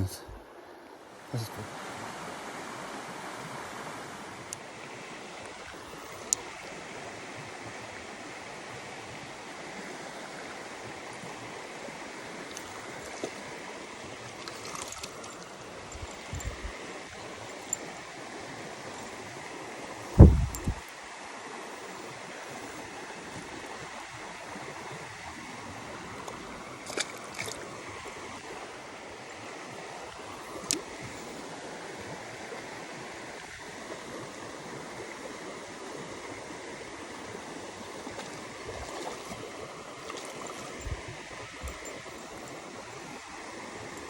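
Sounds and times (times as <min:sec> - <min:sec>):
creek water running: 0:00.0 - 0:44.0.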